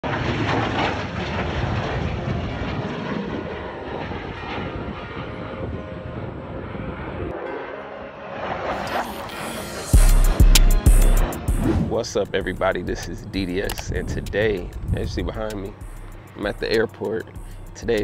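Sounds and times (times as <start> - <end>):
fighter jet engine rumble: 0.0 - 18.0.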